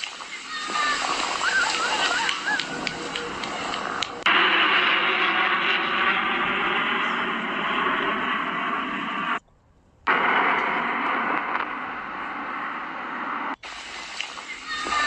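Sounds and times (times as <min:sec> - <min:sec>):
jet engines rushing overhead: 0:00.0 - 0:15.0.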